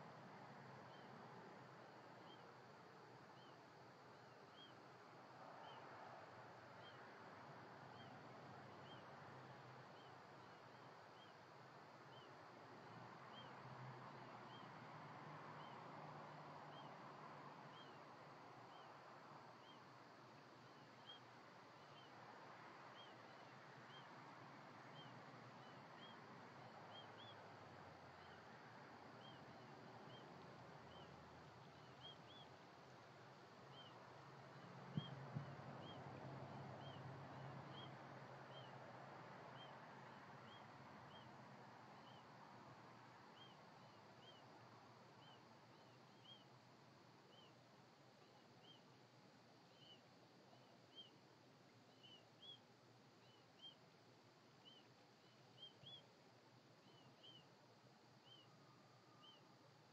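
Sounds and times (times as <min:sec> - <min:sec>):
background hiss: 0:00.0 - 0:59.9
faint low hum: 0:00.0 - 0:59.9.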